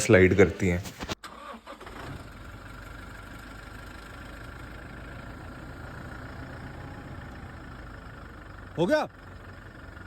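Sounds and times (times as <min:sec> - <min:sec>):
vehicle engine idling: 0:01.9 - 0:10.0.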